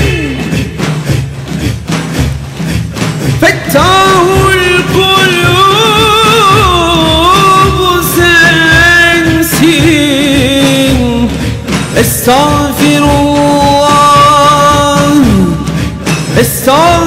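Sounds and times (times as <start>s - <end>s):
pulsing low rhythm: 0.0s - 17.0s.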